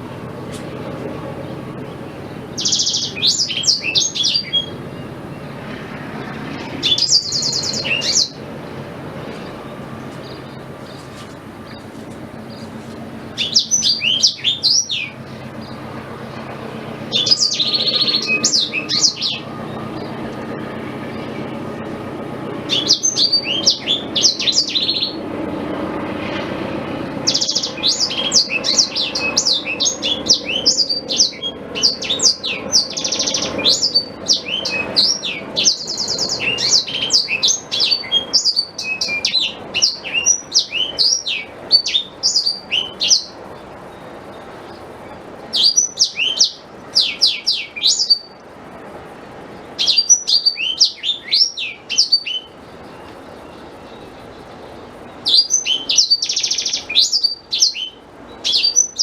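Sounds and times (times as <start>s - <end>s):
canary singing: 0.0s - 48.5s, 49.3s - 59.0s.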